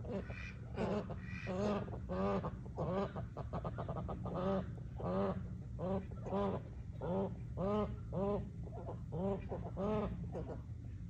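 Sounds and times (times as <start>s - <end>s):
waterfowl honking: 0.0s - 10.6s.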